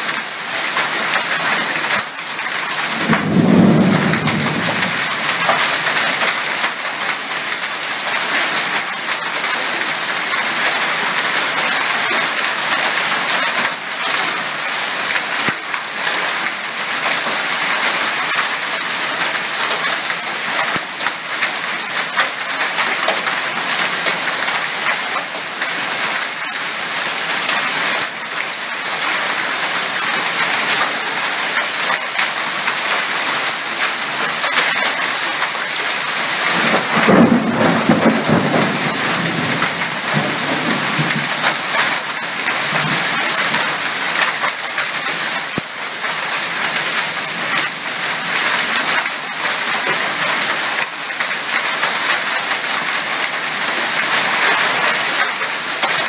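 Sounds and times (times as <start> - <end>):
heavy rain pouring: 0.0 - 56.0
raindrops ticking on hard surfaces: 0.0 - 56.0.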